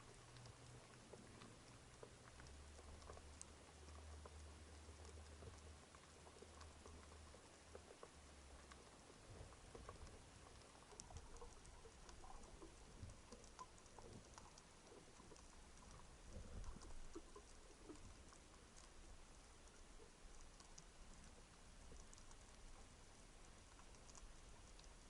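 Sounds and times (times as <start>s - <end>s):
low rumble of moving water: 0.0s - 25.0s
soft underwater crackling clicks: 0.0s - 25.0s.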